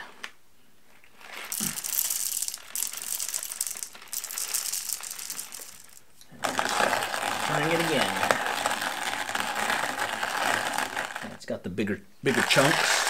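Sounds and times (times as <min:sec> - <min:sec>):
hand coffee grinder crunching beans: 0:01.1 - 0:11.4, 0:12.3 - 0:13.0.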